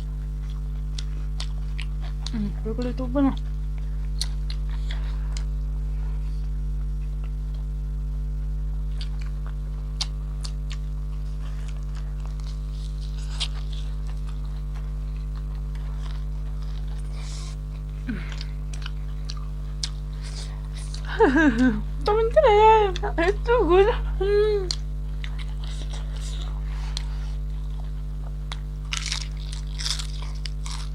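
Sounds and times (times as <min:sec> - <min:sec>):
chewing food: 0:00.0 - 0:05.7, 0:08.9 - 0:22.2, 0:24.7 - 0:30.9
electrical mains hum: 0:00.0 - 0:30.9.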